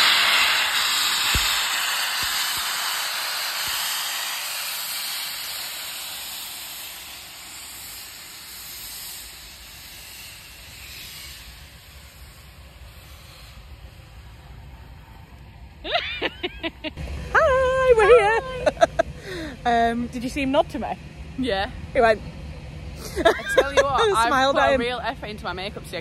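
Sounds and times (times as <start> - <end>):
steam locomotive hissing steam: 0.0 - 20.9.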